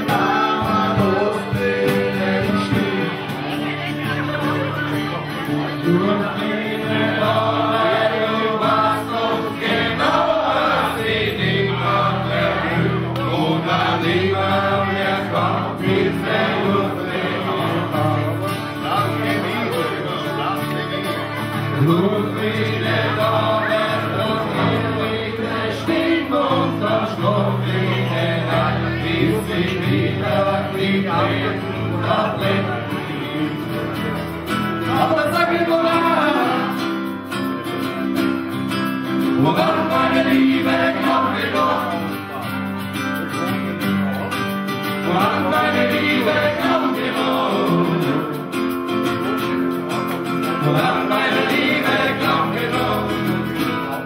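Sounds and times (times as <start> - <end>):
acoustic guitars strummed: 0.0 - 54.0
man singing: 0.0 - 54.0.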